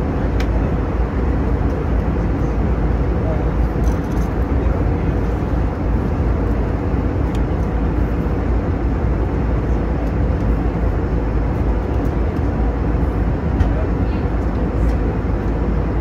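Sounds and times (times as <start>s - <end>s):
airliner cabin noise: 0.0s - 16.0s.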